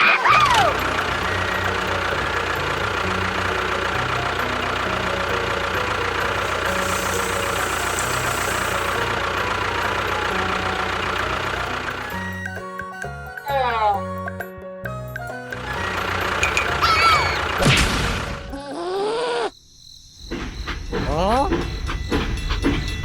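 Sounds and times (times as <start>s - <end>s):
engine running with knocking rattle: 0.2s - 13.5s, 14.1s - 18.5s, 20.2s - 23.0s.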